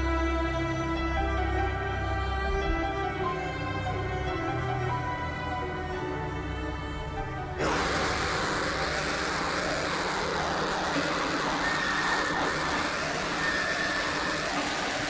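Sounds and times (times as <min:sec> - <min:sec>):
dense noisy music roar: 0:00.0 - 0:15.0.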